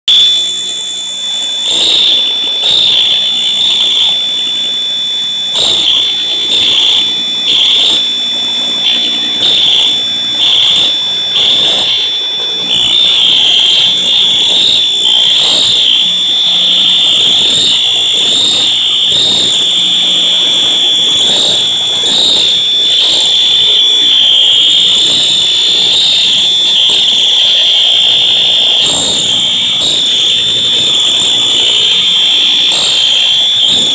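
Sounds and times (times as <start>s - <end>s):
fire alarm horn tone: 0.0s - 33.9s.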